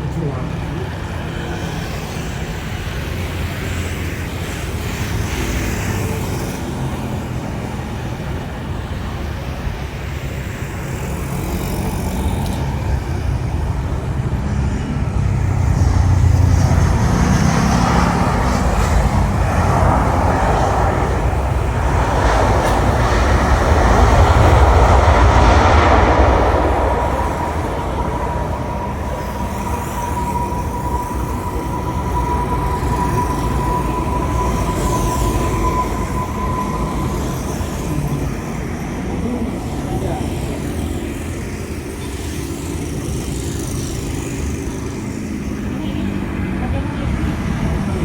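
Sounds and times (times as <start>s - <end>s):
jet airliner engines rumbling: 0.0s - 48.0s.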